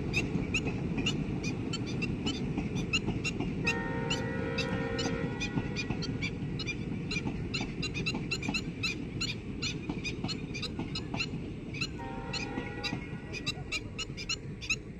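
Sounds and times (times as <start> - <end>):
birds chirping: 0.1 - 14.9.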